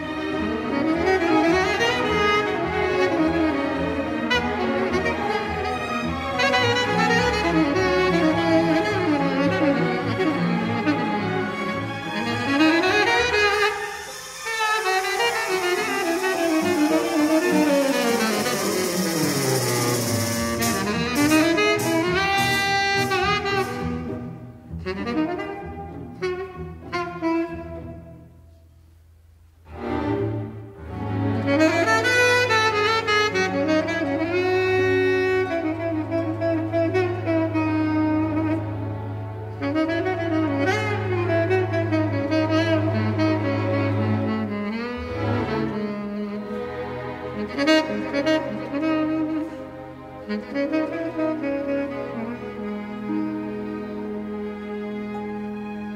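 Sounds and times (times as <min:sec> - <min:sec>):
tenor saxophone jazz melody: 0:00.0 - 0:28.4, 0:30.5 - 0:55.5
bowed string orchestra: 0:00.0 - 0:55.9.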